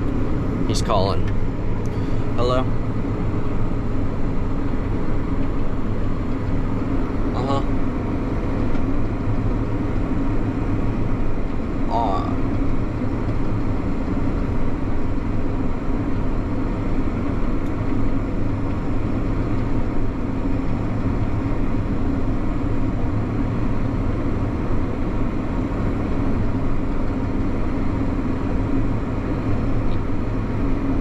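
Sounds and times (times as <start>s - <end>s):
combine harvester droning: 0.0s - 31.0s.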